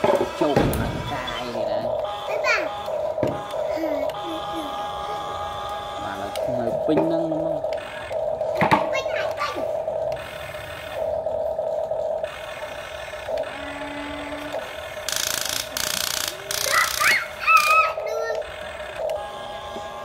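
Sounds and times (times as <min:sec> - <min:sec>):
small electric motors whining: 0:00.0 - 0:20.0
high squeaky rising calls: 0:00.4 - 0:20.0.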